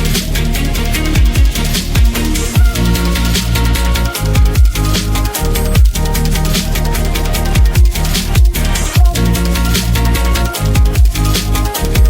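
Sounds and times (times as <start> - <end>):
electronic music with bass kicks: 0.0 - 12.0.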